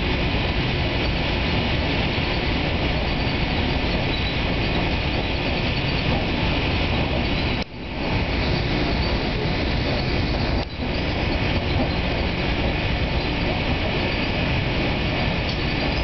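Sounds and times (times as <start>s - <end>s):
train running at speed: 0.0s - 16.0s.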